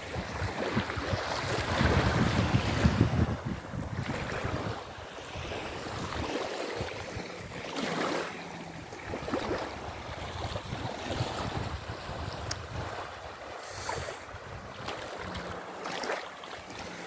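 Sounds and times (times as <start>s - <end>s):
wind on microphone: 0.0s - 15.7s
waves washing onto sand: 0.0s - 17.0s.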